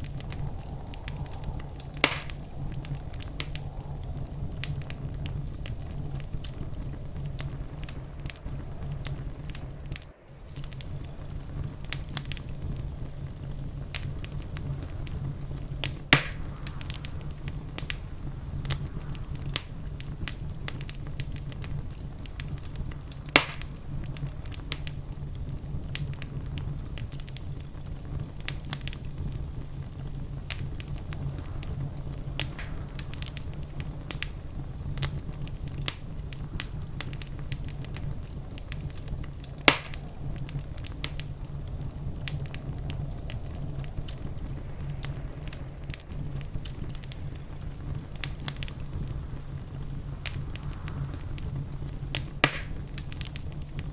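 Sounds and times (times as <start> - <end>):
fire sharp pops: 0.0 - 53.9
wood fire crackling: 0.0 - 53.9.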